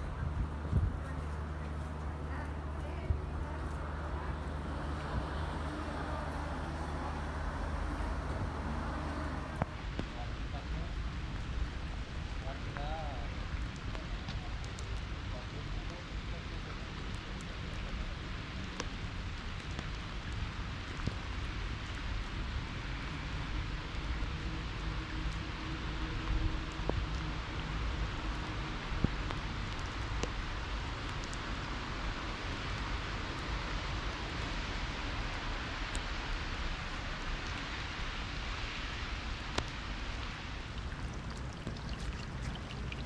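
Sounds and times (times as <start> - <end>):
rain falling: 0.0 - 10.1, 11.2 - 43.0.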